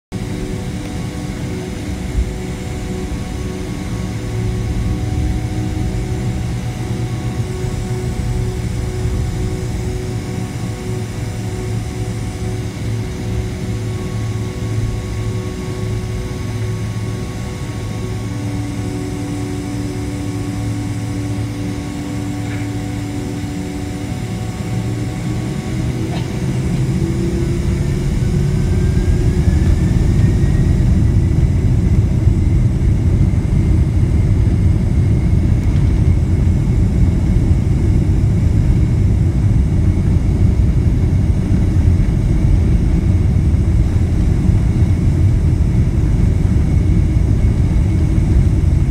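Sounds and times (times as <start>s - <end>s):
jet engines spooling up: 0.2s - 48.9s.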